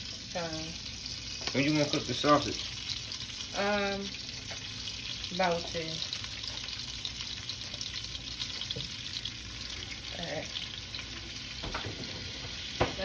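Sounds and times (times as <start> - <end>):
butter sizzling in a pot: 0.0 - 13.0.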